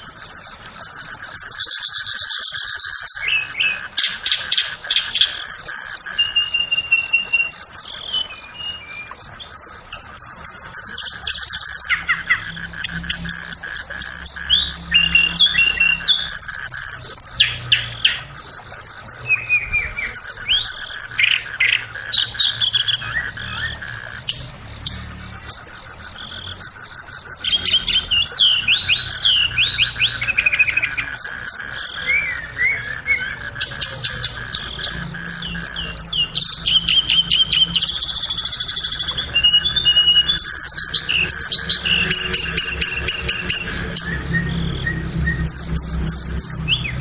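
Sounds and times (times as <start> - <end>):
bird whistling song: 0.0 - 47.0.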